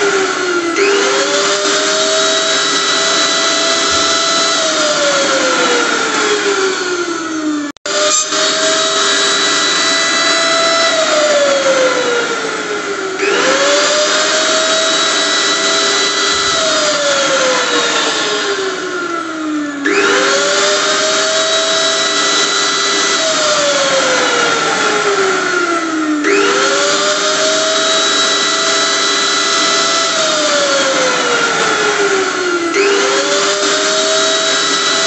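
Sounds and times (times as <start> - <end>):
blender motor whine: 0.0 - 35.0.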